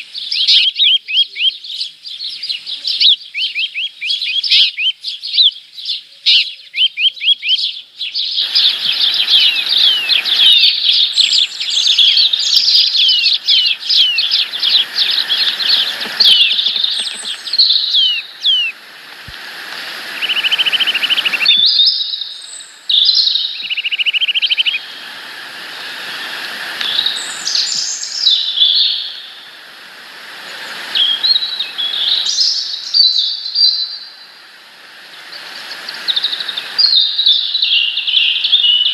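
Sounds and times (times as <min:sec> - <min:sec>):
small birds chirping: 0:00.0 - 0:29.6, 0:30.4 - 0:38.9.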